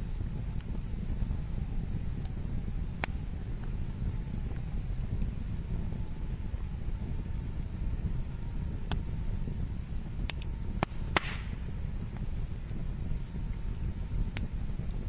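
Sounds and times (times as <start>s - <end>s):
burning wood crackling and popping: 0.0s - 15.0s
low noise of flames: 0.0s - 15.0s.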